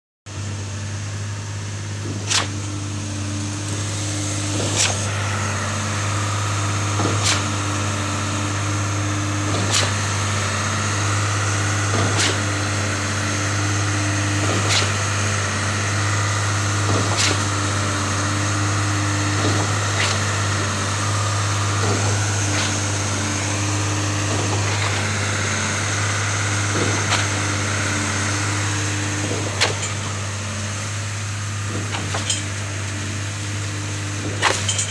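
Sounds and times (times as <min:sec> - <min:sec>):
concrete pump engine hum: 0:00.3 - 0:34.9.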